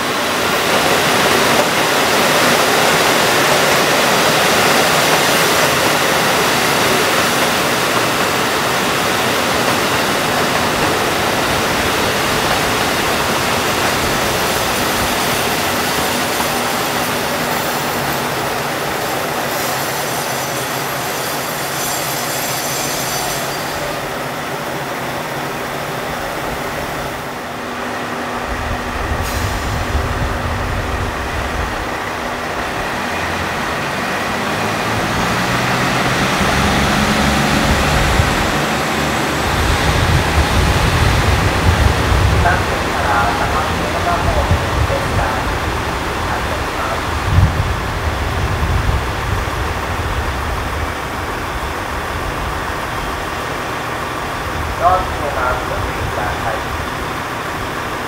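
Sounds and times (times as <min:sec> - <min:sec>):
train engine drone: 0:00.0 - 0:58.0
train running on rails: 0:00.0 - 0:58.0.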